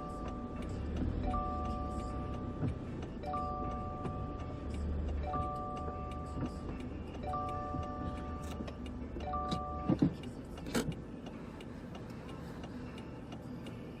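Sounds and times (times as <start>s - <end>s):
car interior rumble: 0.0s - 14.0s.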